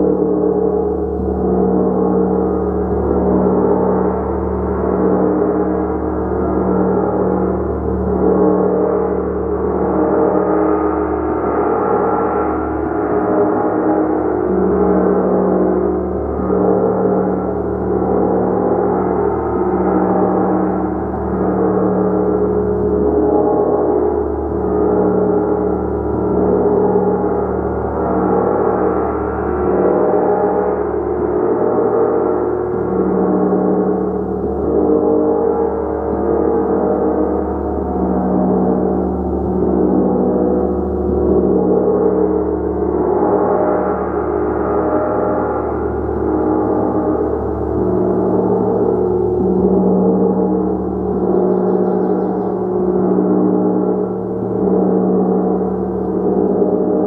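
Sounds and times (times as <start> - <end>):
large gong ringing: 0.0 - 57.0.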